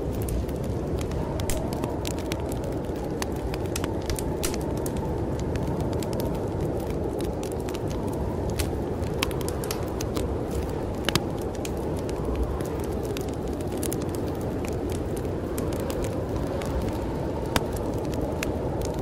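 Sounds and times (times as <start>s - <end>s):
storm wind rushing: 0.0s - 19.0s
wood fire crackling and popping: 0.0s - 19.0s.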